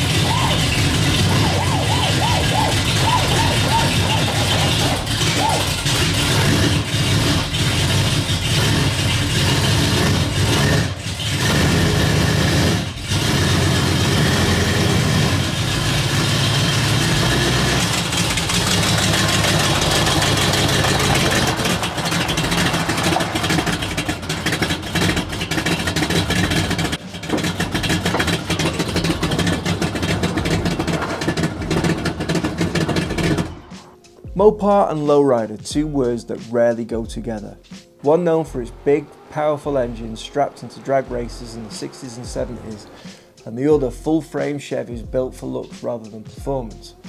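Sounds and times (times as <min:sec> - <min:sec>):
car engine idling: 0:00.0 - 0:34.0, 0:37.0 - 0:44.3.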